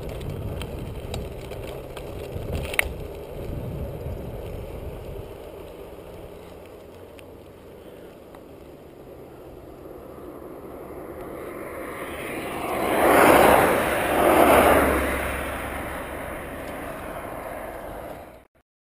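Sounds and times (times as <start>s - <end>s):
bicycle rolling noise: 0.0s - 18.5s
car traffic passing close: 0.0s - 18.5s.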